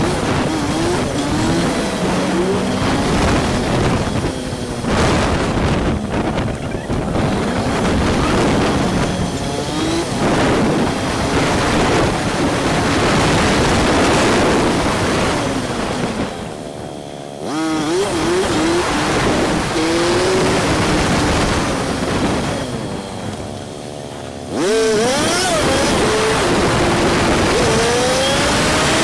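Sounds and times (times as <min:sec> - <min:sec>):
motorcycle engine running: 0:00.0 - 0:29.0
wind rush on microphone: 0:00.0 - 0:29.0.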